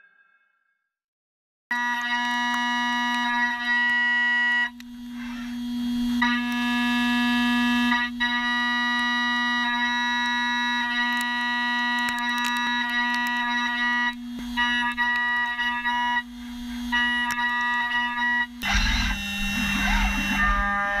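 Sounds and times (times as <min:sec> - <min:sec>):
milling cutter singing tone: 0:01.7 - 0:21.0
spindle low hum: 0:02.2 - 0:21.0.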